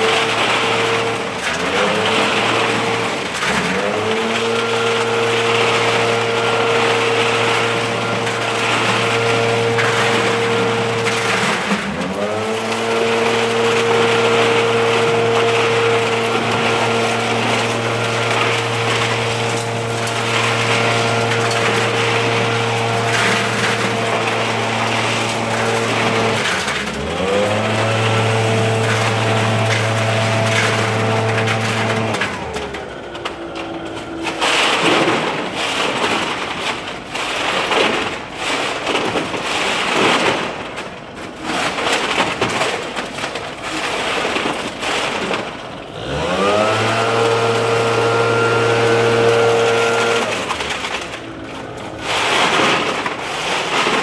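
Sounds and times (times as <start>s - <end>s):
leaf blower engine running: 0.0s - 36.0s, 44.7s - 54.0s.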